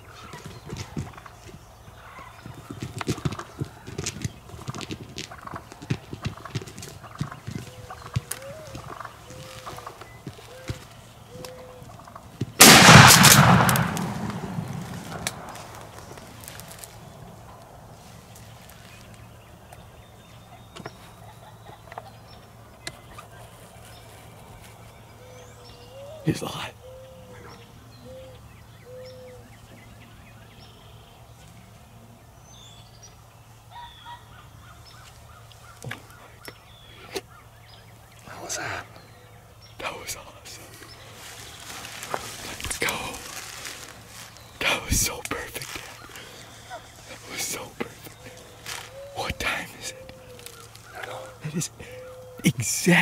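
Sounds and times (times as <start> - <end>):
turkeys scuffling: 0.0 - 25.8, 33.7 - 53.0.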